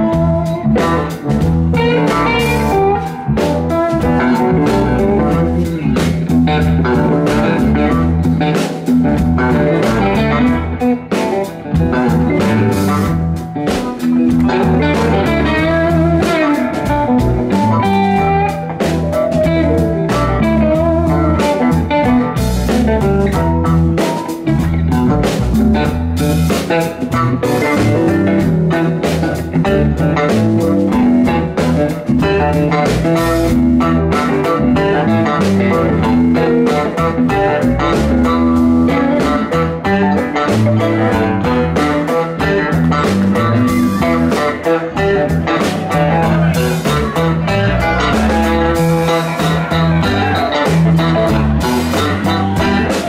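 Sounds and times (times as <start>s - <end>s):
drum kit: 0.0s - 53.0s
electric bass: 0.0s - 53.0s
electric guitar: 0.0s - 53.0s.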